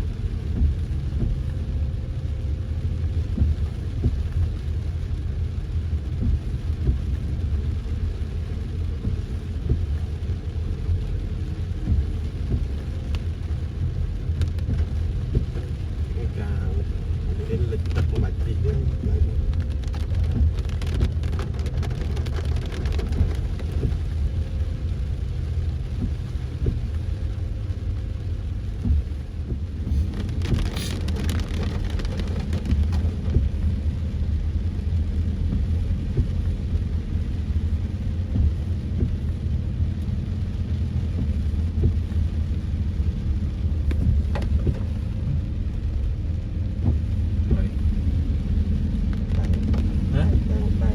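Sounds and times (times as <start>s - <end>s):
car engine and road rumble: 0.0s - 50.9s
rain hissing and pattering: 0.0s - 50.9s.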